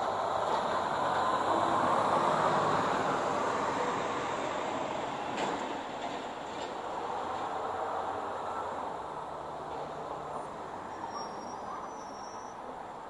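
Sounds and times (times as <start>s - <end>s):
truck driving past: 0.0s - 11.1s.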